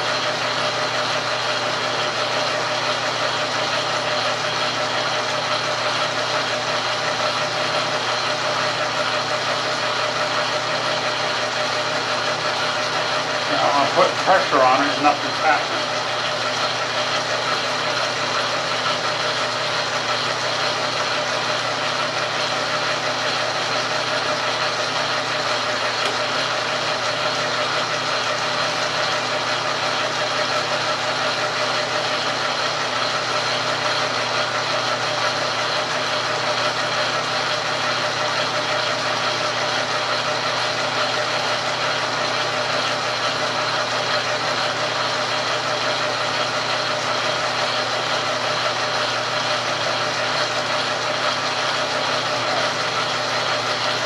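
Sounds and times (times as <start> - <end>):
metal lathe motor humming: 0.0 - 54.0.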